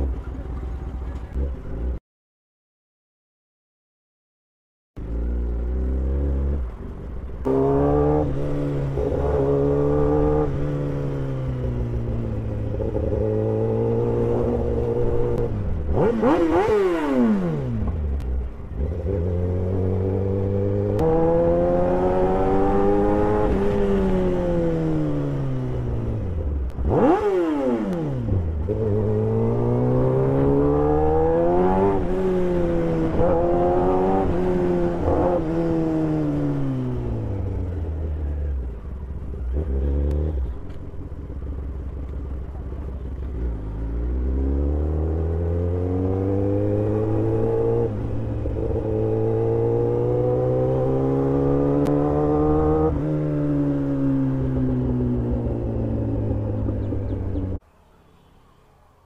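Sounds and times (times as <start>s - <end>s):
motorcycle engine accelerating: 5.0s - 57.6s.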